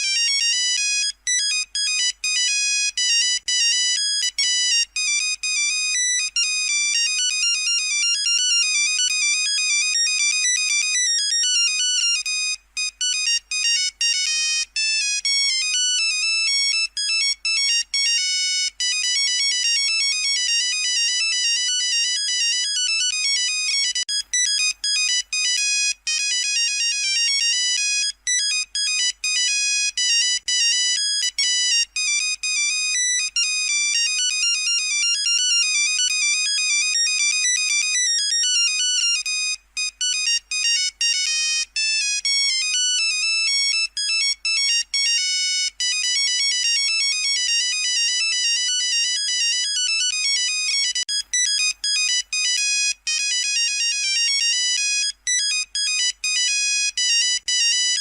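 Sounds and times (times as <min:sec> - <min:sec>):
monophonic phone ringtone: 0:00.0 - 0:58.0.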